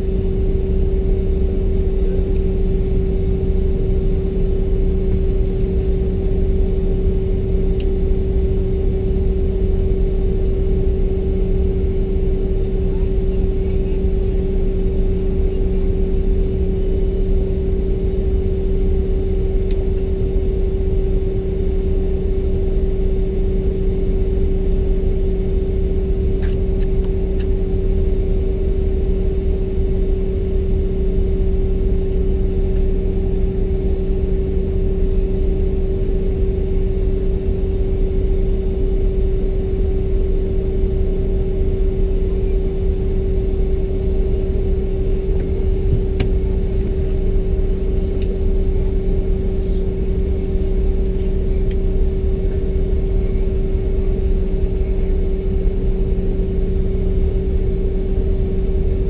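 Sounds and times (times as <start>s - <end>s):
jet cabin drone: 0.0s - 59.0s.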